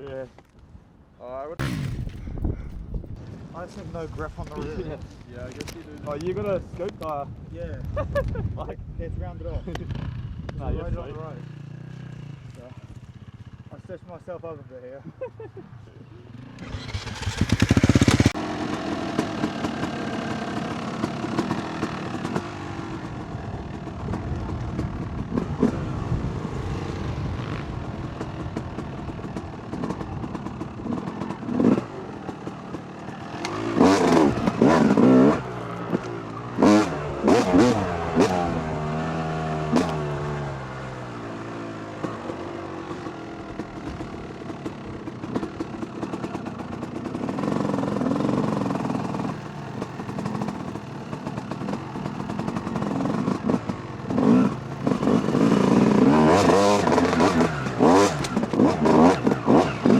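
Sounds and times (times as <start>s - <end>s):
two-stroke dirt bike engine: 9.8s - 14.9s, 16.2s - 59.9s.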